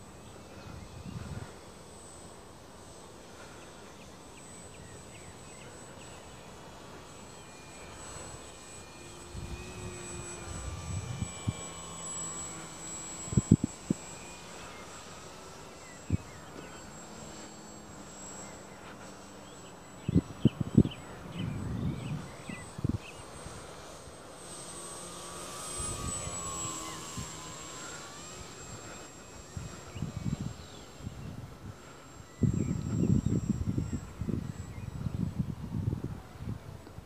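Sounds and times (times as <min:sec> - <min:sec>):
model plane motor droning: 0:00.0 - 0:37.0.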